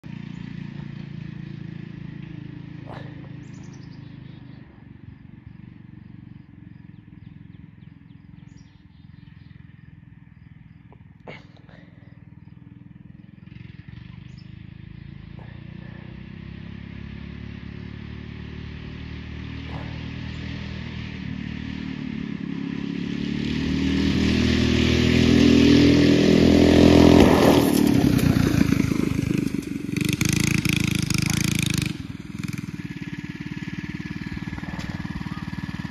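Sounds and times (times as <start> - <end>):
go-kart engine accelerating: 0.0 - 35.9.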